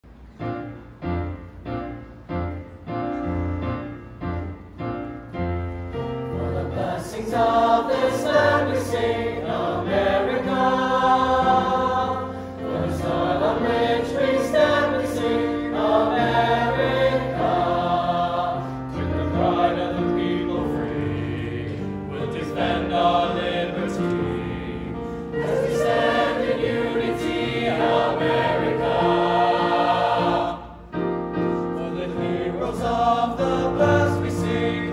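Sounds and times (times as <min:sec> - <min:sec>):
piano chords: 0:00.0 - 0:34.9
choir singing in parts: 0:06.0 - 0:34.9.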